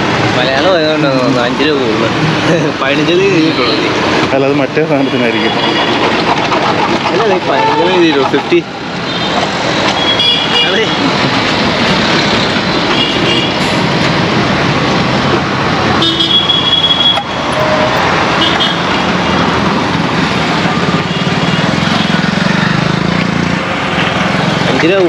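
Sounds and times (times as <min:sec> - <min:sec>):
vehicle engines running: 0:00.0 - 0:25.0.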